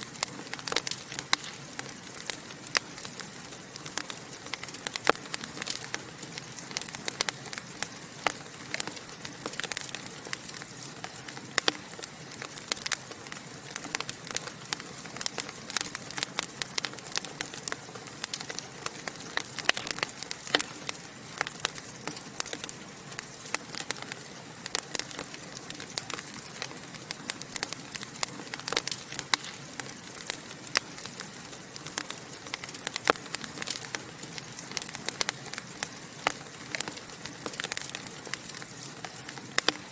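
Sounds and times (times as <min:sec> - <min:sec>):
fireplace fire crackling and popping: 0:00.0 - 0:39.9.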